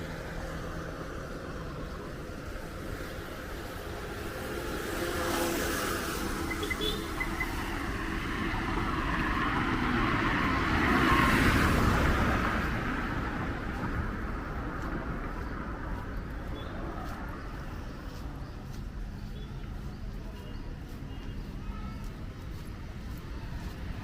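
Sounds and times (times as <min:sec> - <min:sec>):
background traffic: 0:00.0 - 0:24.0
vehicle passing on wet street: 0:00.0 - 0:24.0.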